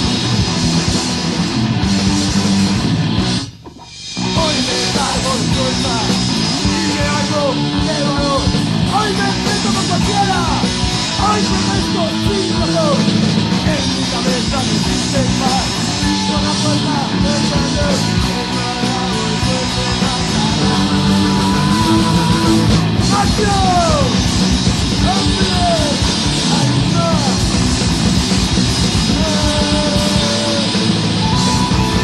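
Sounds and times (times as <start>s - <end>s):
punk rock song: 0.0s - 32.0s.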